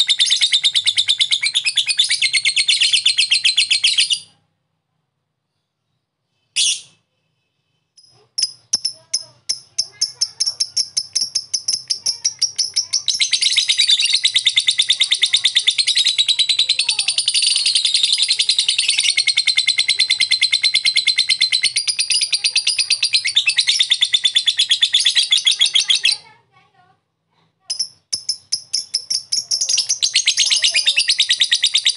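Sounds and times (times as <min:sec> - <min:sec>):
lovebird ticking and trilling: 0:00.0 - 0:04.4, 0:08.0 - 0:26.3, 0:27.7 - 0:31.9.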